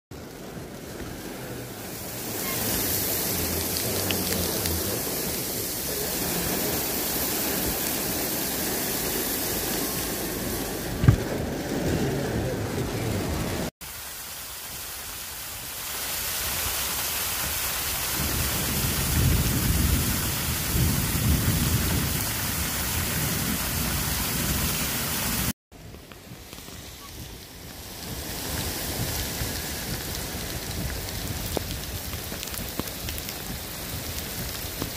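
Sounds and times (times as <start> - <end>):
water sheeting off roof: 0.1 - 25.6, 26.2 - 34.9
torrential rain on pavement: 0.1 - 34.9.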